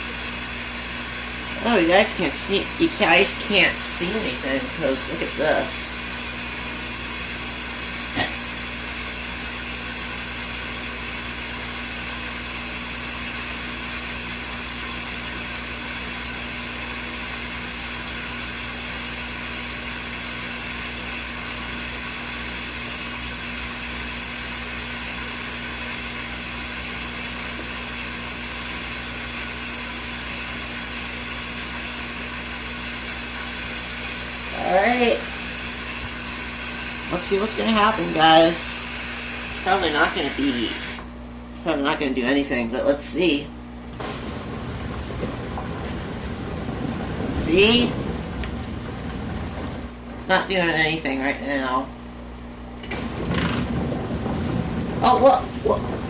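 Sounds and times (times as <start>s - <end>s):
washing machine motor drone: 0.0s - 56.0s.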